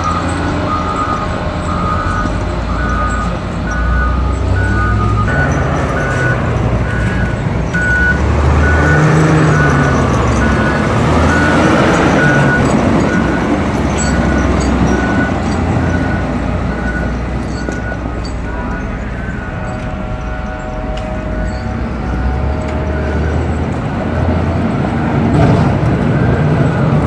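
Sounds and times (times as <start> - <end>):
diesel engines revving: 0.0 - 27.0
reversing alarm beeping: 0.0 - 27.0.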